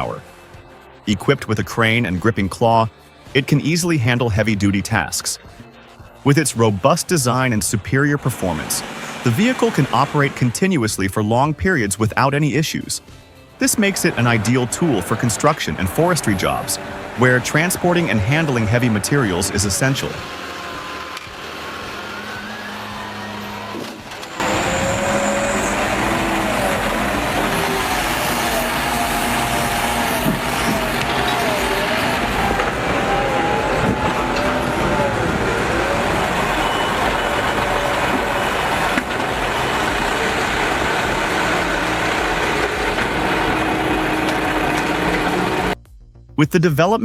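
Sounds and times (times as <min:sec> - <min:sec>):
heavy truck engine running: 0:05.4 - 0:10.7, 0:13.1 - 0:45.8.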